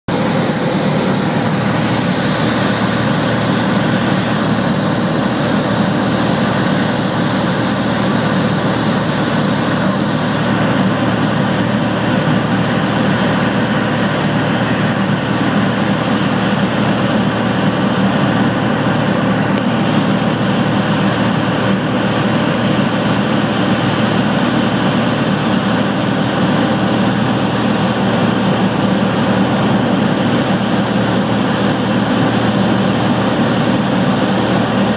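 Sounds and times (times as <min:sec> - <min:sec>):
light airplane engine and propeller drone: 0:00.1 - 0:34.9.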